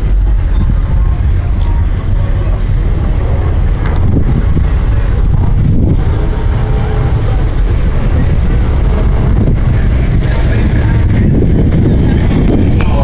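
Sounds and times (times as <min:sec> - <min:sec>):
car engines and traffic rumble: 0:00.0 - 0:13.0
voices: 0:00.0 - 0:13.0.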